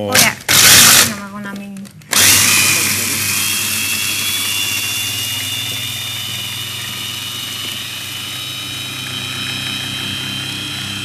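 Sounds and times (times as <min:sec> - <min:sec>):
electric chopper motor whine: 0:02.1 - 0:11.0.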